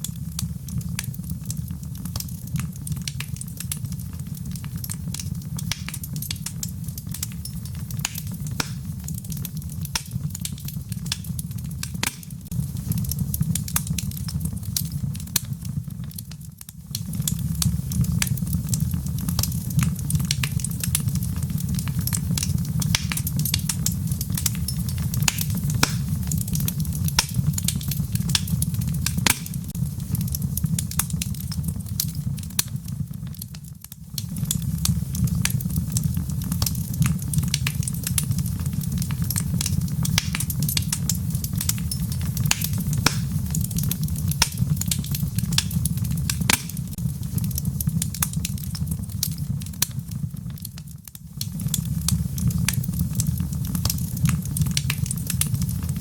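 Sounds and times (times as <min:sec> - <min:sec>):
low rushing rumble of fire: 0:00.0 - 0:56.0
wood fire crackling: 0:00.0 - 0:56.0.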